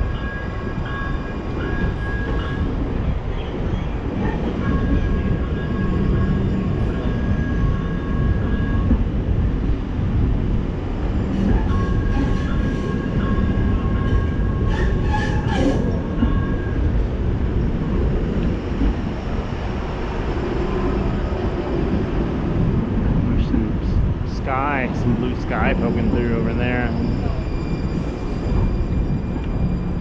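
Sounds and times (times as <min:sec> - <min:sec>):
light rail train high whine: 0:00.0 - 0:30.0
low train rumble: 0:00.0 - 0:30.0.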